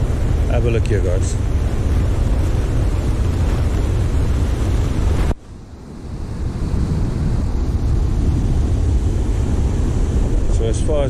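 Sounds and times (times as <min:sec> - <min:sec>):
surf breaking on rocky beach: 0:00.0 - 0:11.0
wind buffeting microphone: 0:00.0 - 0:11.0.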